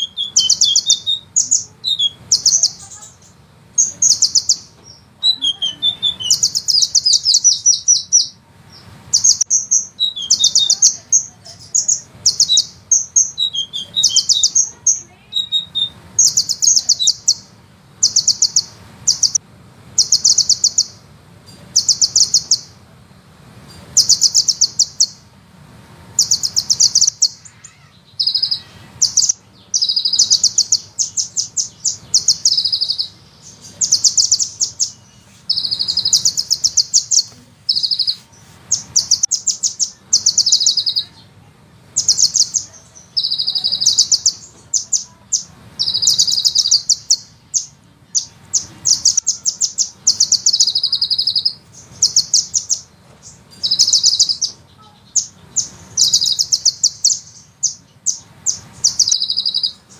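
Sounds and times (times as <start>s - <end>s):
bird singing rattling trills: 0.0s - 22.9s, 23.6s - 25.5s, 26.1s - 59.9s.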